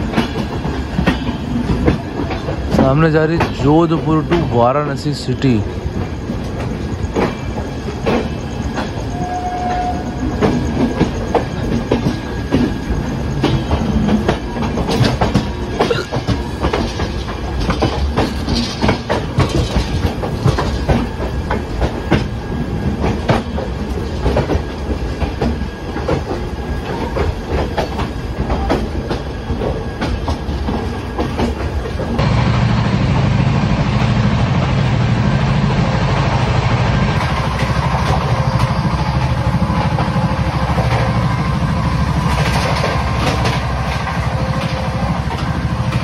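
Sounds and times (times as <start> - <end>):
train wheels clattering over rail joints: 0.0 - 32.2, 37.1 - 46.0.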